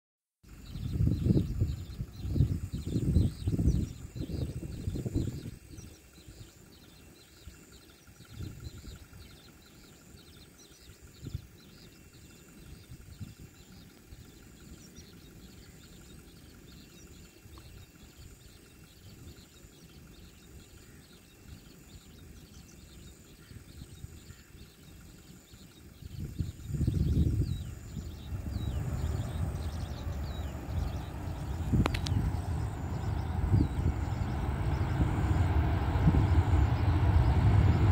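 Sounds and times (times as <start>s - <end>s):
bird chirps: 0.5s - 37.9s
low uneven rumble: 0.5s - 37.9s
pulsing insect trill: 0.5s - 37.9s.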